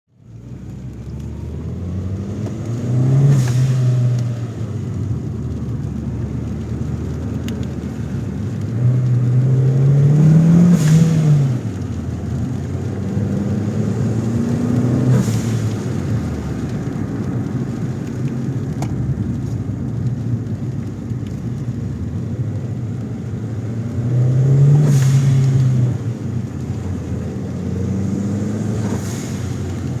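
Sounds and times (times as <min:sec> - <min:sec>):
car engine idling and revving: 0:00.1 - 0:30.0.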